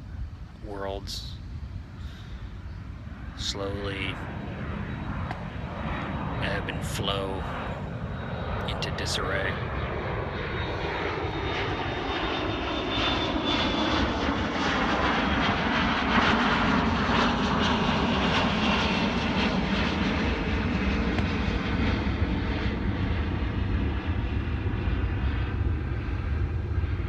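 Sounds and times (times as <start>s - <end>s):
airplane engine roar: 0.0s - 27.0s.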